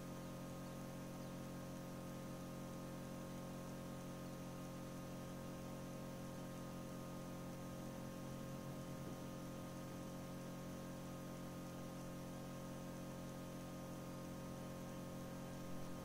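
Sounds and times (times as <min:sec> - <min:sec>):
incubator electrical hum: 0:00.0 - 0:16.0.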